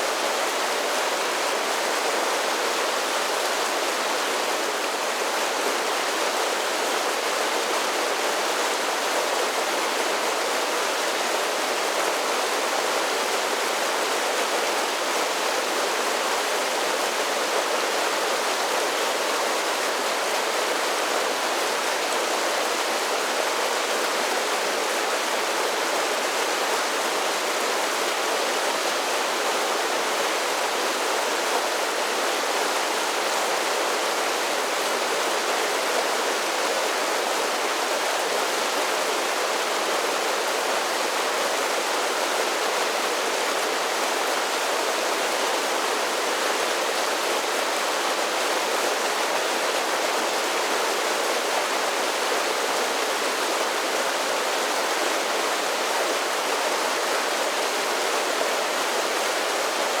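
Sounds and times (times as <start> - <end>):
creek rushing over waterfalls: 0.0 - 60.0.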